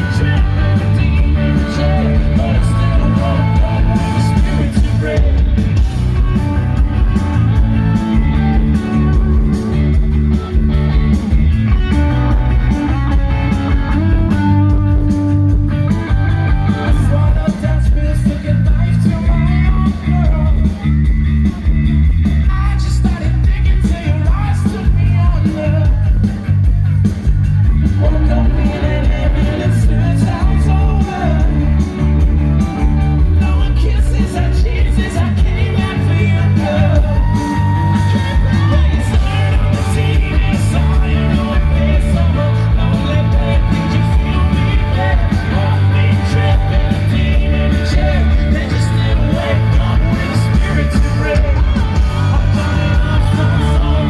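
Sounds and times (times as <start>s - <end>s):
man singing and shouting: 0.0s - 9.9s, 12.1s - 26.7s, 27.5s - 54.0s
live rock band playing: 0.0s - 54.0s.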